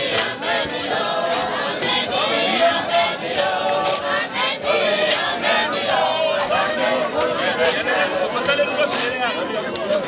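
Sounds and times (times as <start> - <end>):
crowd singing unaccompanied: 0.0 - 10.0.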